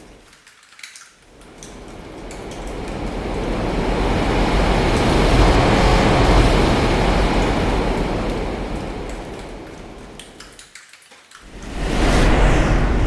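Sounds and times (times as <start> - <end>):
light drizzle: 0.0 - 13.0.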